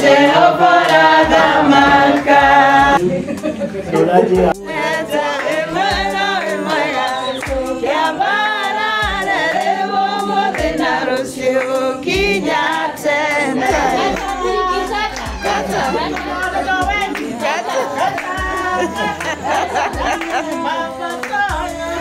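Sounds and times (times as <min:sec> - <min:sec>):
group of people singing: 0:00.0 - 0:22.0.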